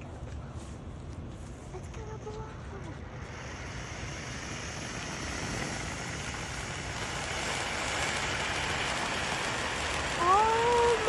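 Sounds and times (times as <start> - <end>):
firework hissing: 1.7 - 11.0.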